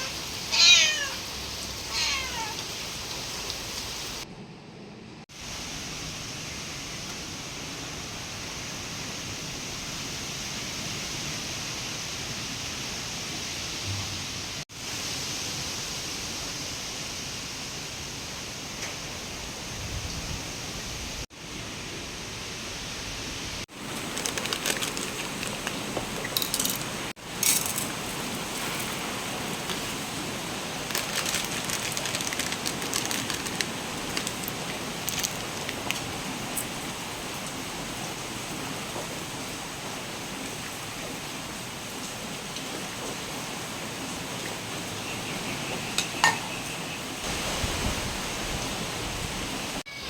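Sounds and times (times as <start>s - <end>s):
heavy rain hissing: 0.0s - 4.3s, 5.3s - 49.9s.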